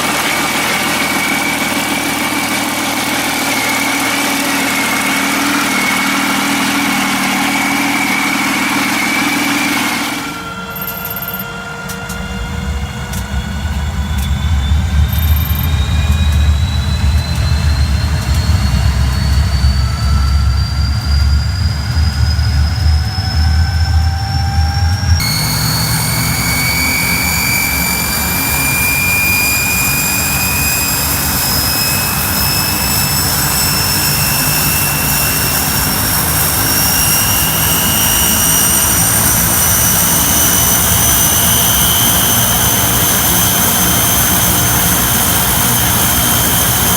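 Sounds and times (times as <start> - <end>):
engine rumbling with rising whine: 0.0 - 46.9
turbine spooling up: 0.0 - 46.9.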